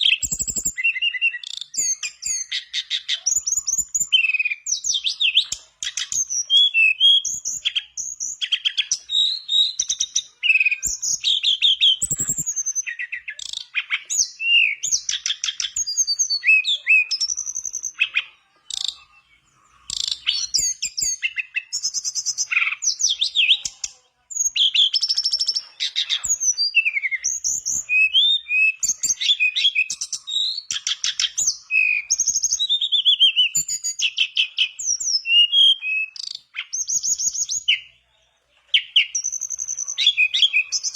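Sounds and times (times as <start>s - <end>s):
bird singing whistled notes: 0.0s - 37.9s, 38.8s - 40.9s.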